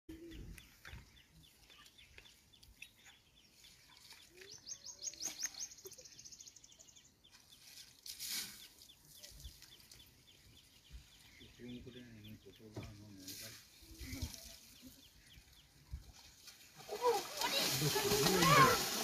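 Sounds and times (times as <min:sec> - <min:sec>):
faint birds chirping: 0:00.1 - 0:19.0.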